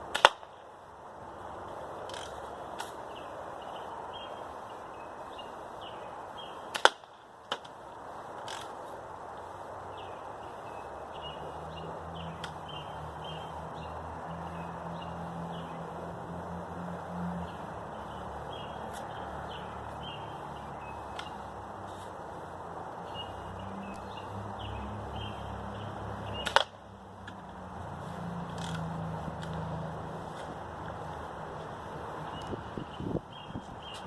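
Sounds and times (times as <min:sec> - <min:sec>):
birds chirping: 0:01.4 - 0:06.8, 0:08.1 - 0:34.0.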